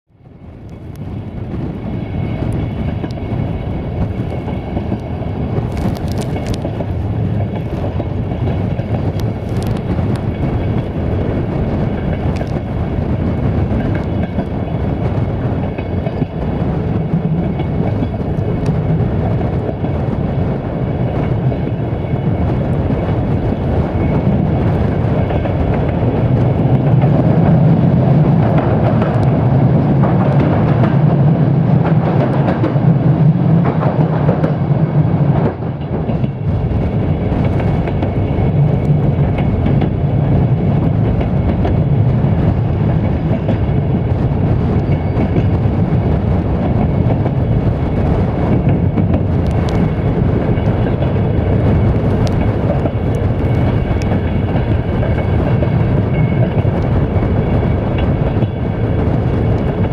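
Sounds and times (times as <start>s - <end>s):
train wheels rumbling on rails: 0.1s - 59.9s.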